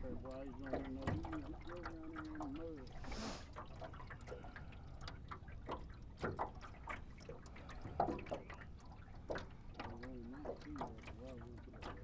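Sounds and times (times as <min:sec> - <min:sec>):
water lapping around boat: 0:00.0 - 0:12.0
water splashes: 0:00.0 - 0:12.0.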